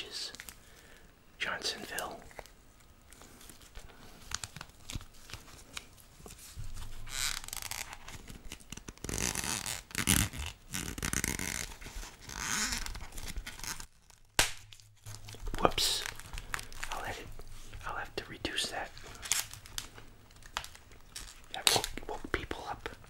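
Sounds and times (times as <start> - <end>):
plastic film crinkling: 1.9 - 17.9, 18.7 - 23.0.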